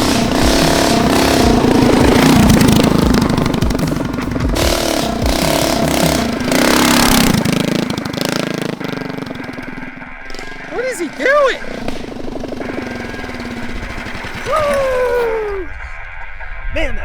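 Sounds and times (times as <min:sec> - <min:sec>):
small engine revving: 0:00.0 - 0:15.9.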